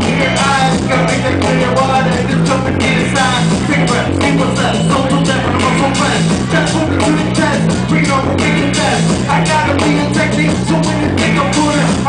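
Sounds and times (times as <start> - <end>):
loud club music with bass line: 0.0 - 12.0.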